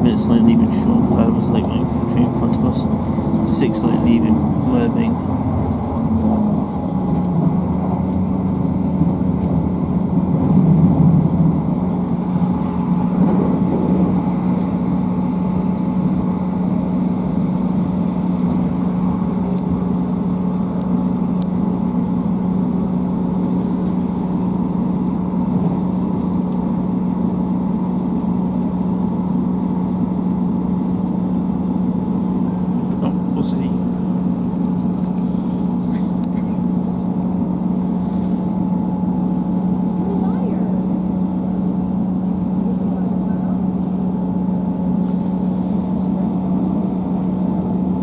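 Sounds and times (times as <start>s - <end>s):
diesel engine drone: 0.0s - 48.0s
steady hum: 0.0s - 48.0s
train running rumble: 0.0s - 48.0s.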